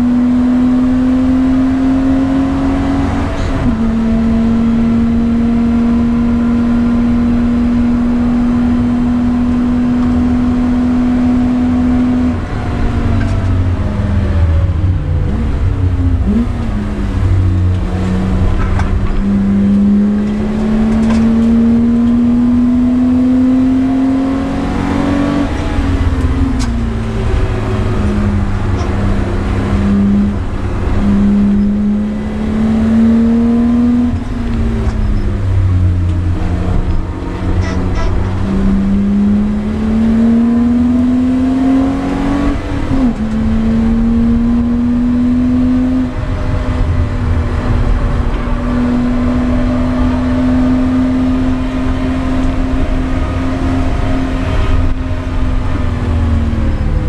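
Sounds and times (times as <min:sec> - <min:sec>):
car engine running under load: 0:00.0 - 0:57.0.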